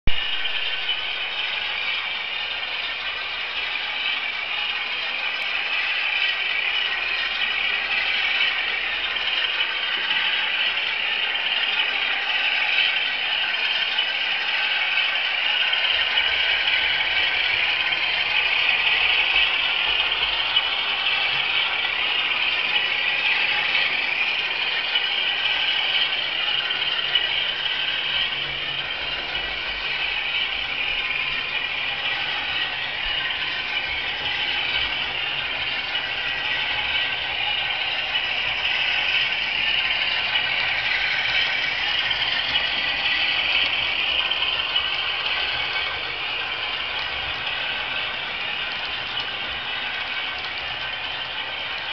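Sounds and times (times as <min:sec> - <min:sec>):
diesel engine sound through small speaker: 0:00.1 - 0:51.9.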